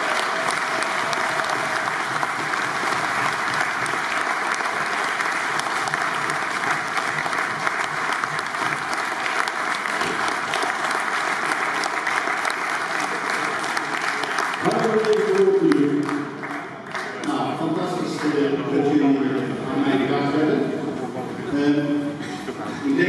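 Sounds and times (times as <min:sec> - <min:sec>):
audience applauding: 0:00.0 - 0:18.7.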